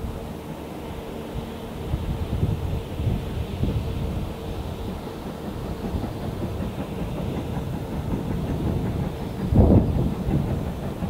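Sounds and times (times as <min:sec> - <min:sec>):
distant steam locomotive rumble: 0:00.0 - 0:11.0
wind buffeting microphone: 0:01.2 - 0:11.0.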